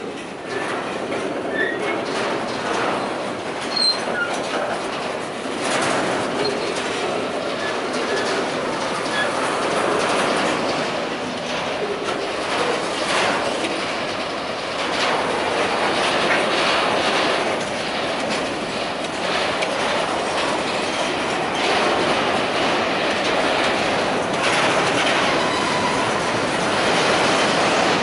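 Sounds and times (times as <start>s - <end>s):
steel wheels rumbling on rail: 0.0s - 28.0s
wheels clacking over rail joints: 0.0s - 28.0s.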